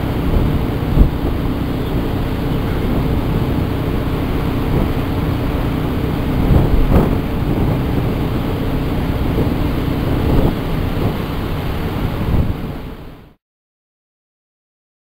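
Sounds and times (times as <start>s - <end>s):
strong wind buffeting microphone: 0.0s - 13.4s.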